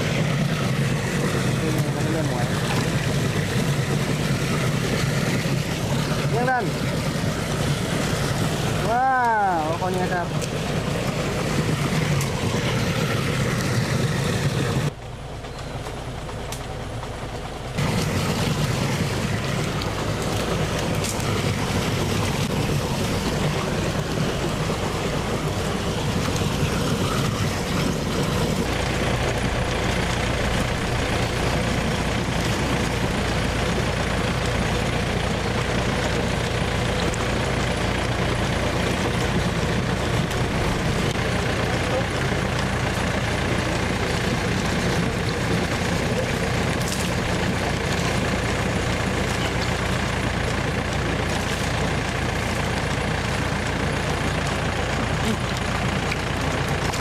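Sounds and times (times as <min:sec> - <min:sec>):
water pump engine running: 0:00.0 - 0:57.0.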